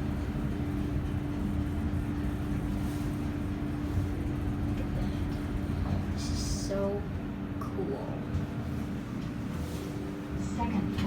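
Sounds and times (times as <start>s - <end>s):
elevator hum and rumble: 0.0s - 11.0s.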